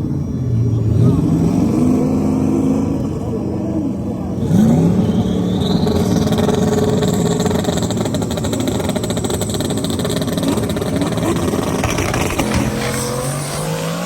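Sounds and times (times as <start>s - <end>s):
drag racing engines revving: 0.0s - 14.0s.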